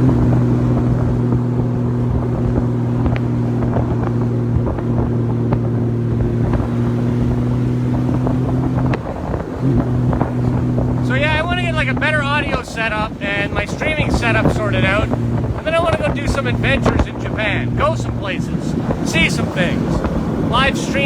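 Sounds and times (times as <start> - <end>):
motorcycle engine cruising: 0.0 - 21.0
wind noise on microphone: 0.0 - 21.0.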